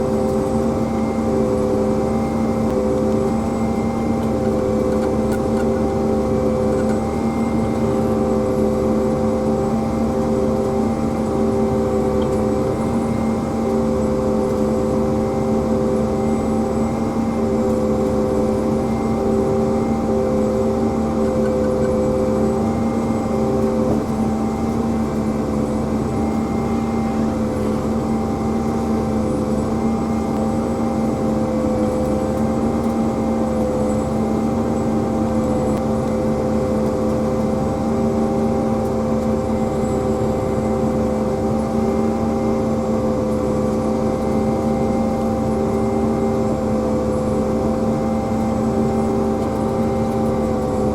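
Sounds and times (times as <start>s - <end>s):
harvester machine hum: 0.0s - 50.9s.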